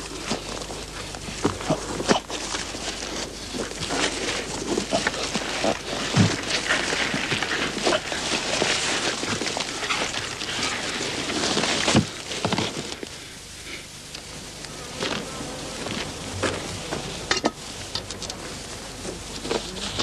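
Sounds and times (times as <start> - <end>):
dry reeds rustling and crackling: 0.0 - 20.0.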